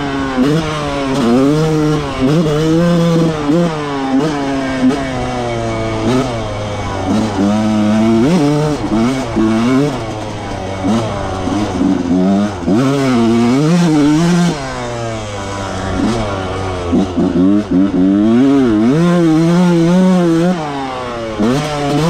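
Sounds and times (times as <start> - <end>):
two-stroke motorcycle engine revving: 0.0 - 22.0.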